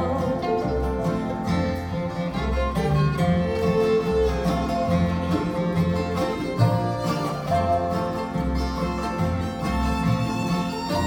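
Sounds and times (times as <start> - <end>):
acoustic guitar: 0.0 - 11.0
fiddle: 0.0 - 11.0
low bass notes: 0.0 - 11.0.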